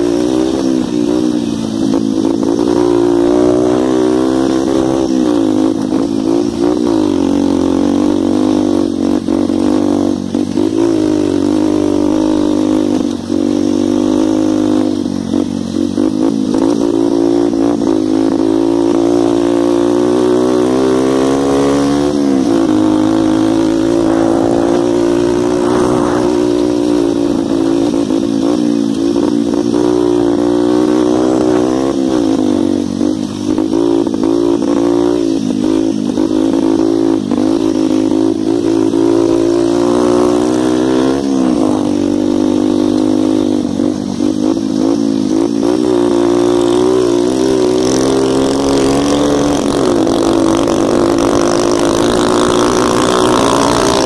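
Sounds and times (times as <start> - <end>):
dirt bike engine revving high: 0.0 - 54.0.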